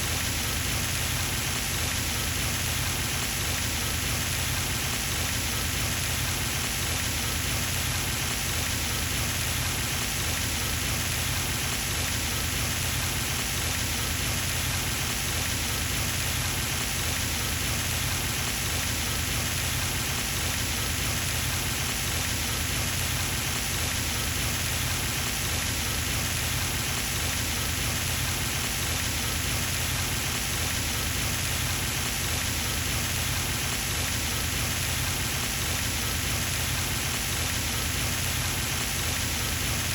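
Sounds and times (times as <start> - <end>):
fountain water splashing: 0.1 - 39.9.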